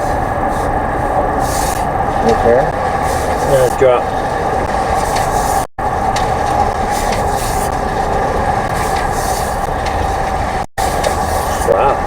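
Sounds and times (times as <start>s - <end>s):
mechanical running hum: 0.0s - 12.0s.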